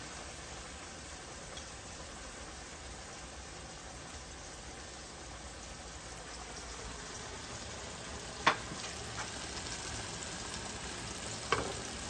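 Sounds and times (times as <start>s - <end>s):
curry sizzling in hot oil: 0.0s - 12.0s.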